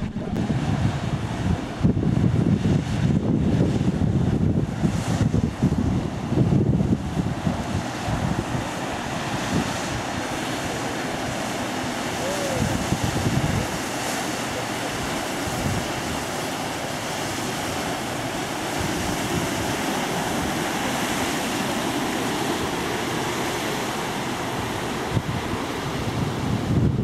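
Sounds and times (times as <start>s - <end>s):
ship bow wave rushing: 0.0s - 27.0s
wind buffeting microphone: 0.0s - 27.0s.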